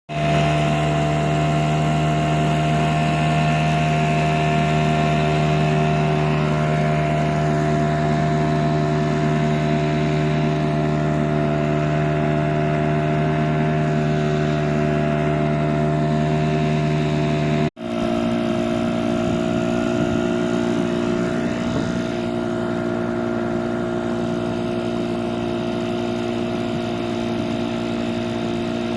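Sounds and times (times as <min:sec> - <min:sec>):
outboard motor running: 0:00.1 - 0:28.9.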